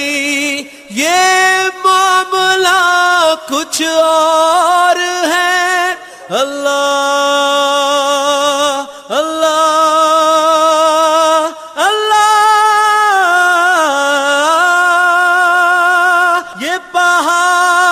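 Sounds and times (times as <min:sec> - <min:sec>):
person singing devotional song: 0:00.0 - 0:17.9.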